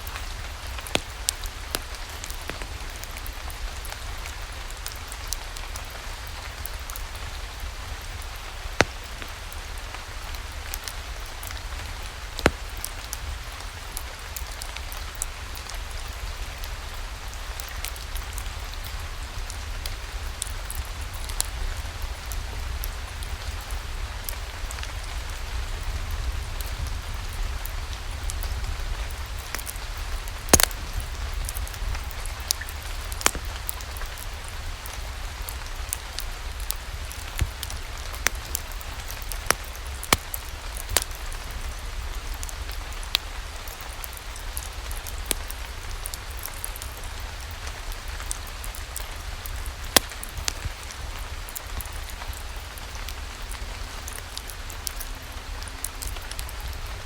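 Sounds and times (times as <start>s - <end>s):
steady rain falling: 0.0s - 57.0s
wood fire crackling: 0.0s - 57.0s.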